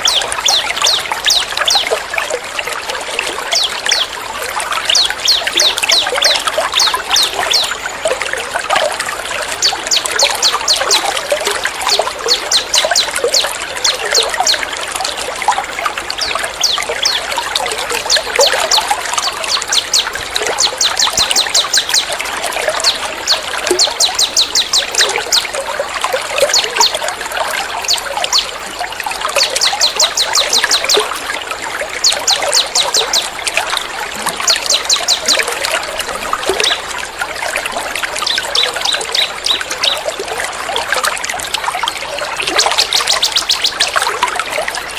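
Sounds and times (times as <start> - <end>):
songbirds singing: 0.0 - 31.3, 31.9 - 40.2, 42.2 - 44.9
running water trickling: 0.0 - 44.9.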